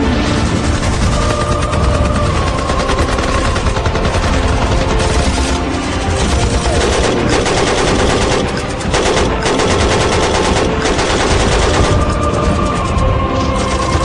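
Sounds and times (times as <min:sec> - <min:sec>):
rapid machine-gun and rifle fire: 0:00.0 - 0:14.0.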